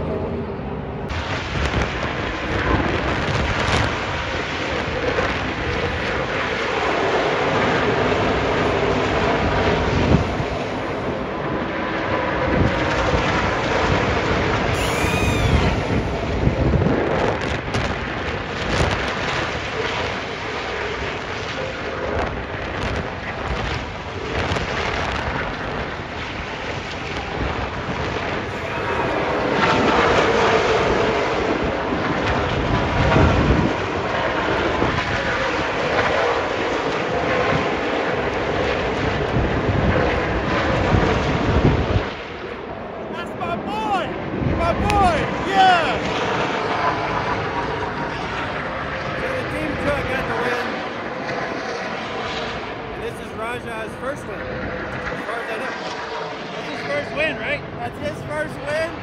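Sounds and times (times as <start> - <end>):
wind buffeting microphone: 0.0 - 53.2.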